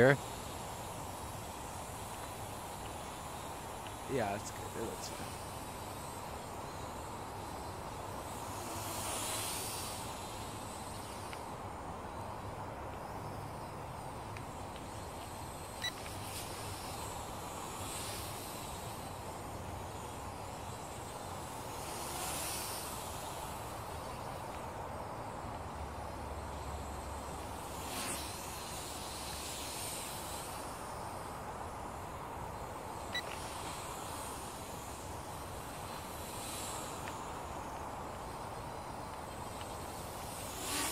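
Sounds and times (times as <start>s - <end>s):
toy drone propellers hissing: 0.0s - 40.9s.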